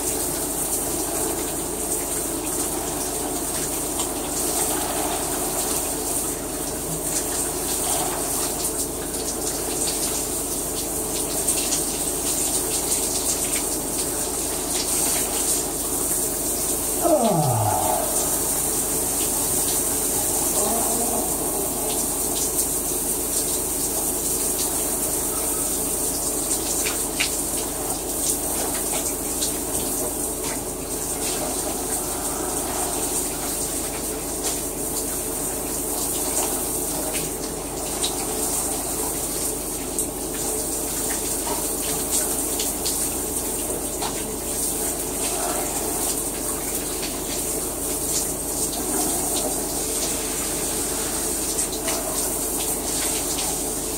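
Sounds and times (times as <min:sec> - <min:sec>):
shower water spraying: 0:00.2 - 0:53.9.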